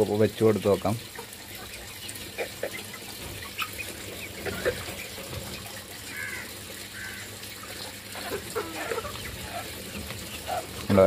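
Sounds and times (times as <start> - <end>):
hens clucking softly: 0.6 - 11.0
hens pecking in plastic bucket: 1.1 - 11.0.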